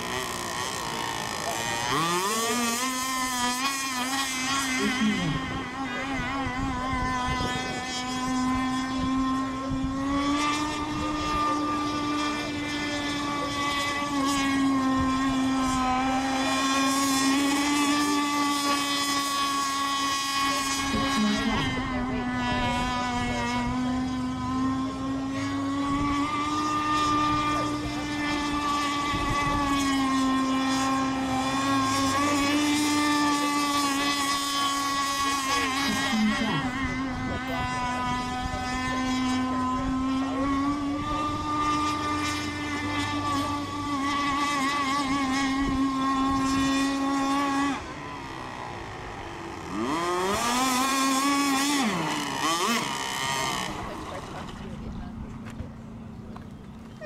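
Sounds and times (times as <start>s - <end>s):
model boat motor running: 0.0s - 57.0s.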